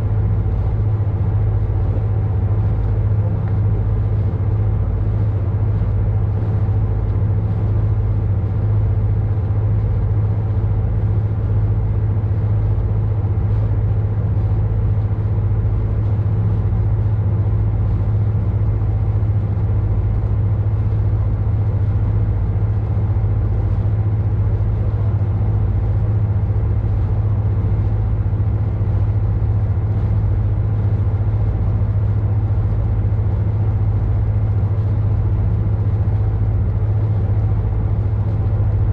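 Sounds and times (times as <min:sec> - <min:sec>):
boat engine droning: 0:00.0 - 0:38.9.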